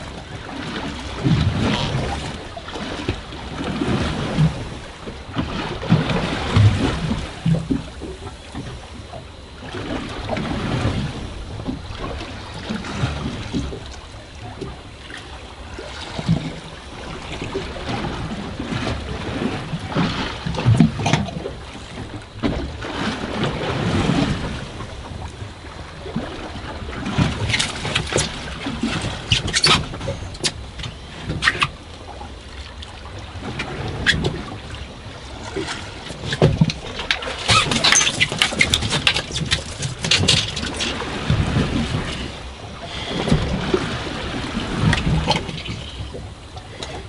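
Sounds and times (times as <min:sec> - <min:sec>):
water slapping boat hull: 0:00.0 - 0:47.0
wind: 0:00.0 - 0:47.0.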